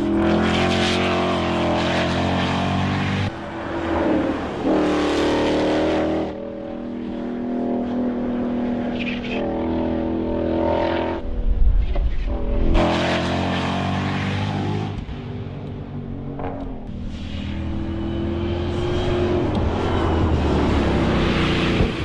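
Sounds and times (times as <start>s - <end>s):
car engine revving: 0.0s - 11.4s, 12.0s - 22.0s.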